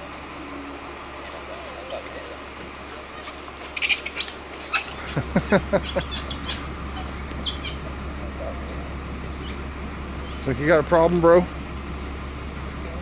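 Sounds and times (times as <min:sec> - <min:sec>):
downward sweeping animal calls: 0:00.0 - 0:10.6.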